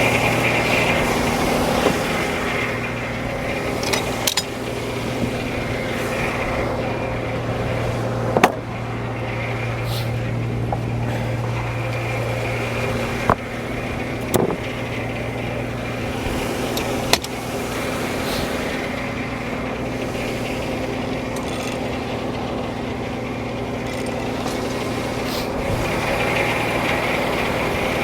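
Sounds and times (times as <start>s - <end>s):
sawmill running with low hum: 0.0s - 28.0s.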